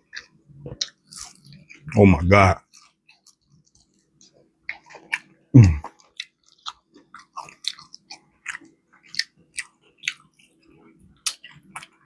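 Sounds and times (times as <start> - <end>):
chewing crispy chicken: 0.0 - 12.0.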